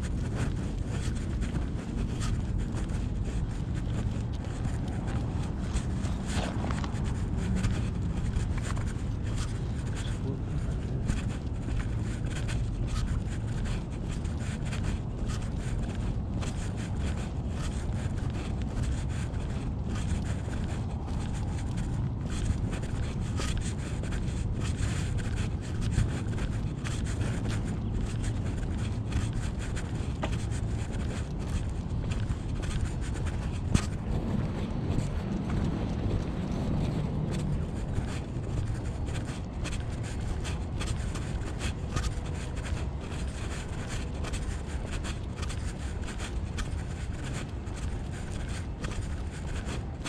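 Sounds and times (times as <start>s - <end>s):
rubbing and scuffing from walking: 0.0s - 50.0s
wind buffeting microphone: 0.0s - 50.0s.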